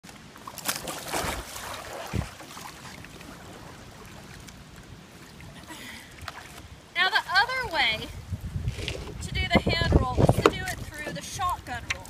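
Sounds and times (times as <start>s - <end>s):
water splashing around kayak: 0.0s - 12.0s
water lapping: 0.1s - 12.0s.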